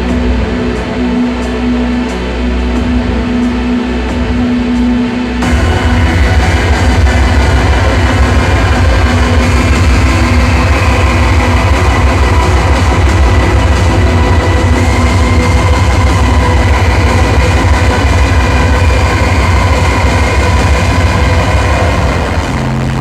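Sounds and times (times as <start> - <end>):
drone metal music: 0.0 - 23.0.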